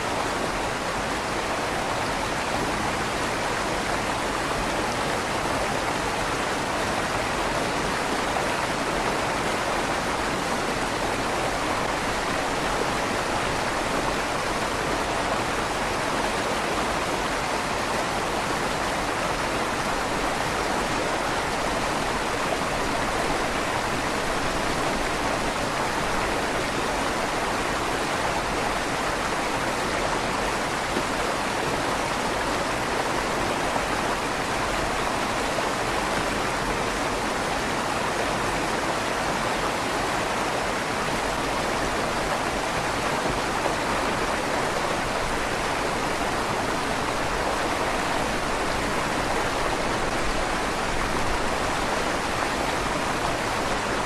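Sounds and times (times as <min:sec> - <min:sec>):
river water rushing in tunnel: 0:00.0 - 0:54.0.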